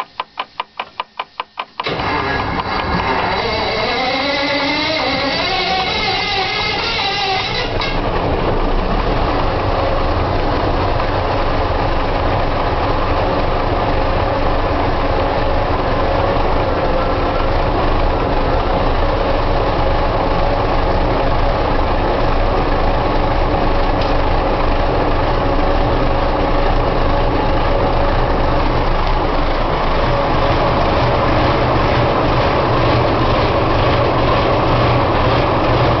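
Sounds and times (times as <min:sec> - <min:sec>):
diesel engine idling: 0:01.8 - 0:36.0.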